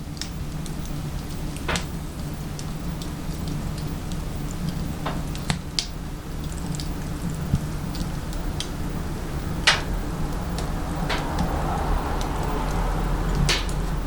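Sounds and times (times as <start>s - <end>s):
firewood crackling and popping: 0.0s - 14.0s
low steady hum: 0.0s - 14.0s.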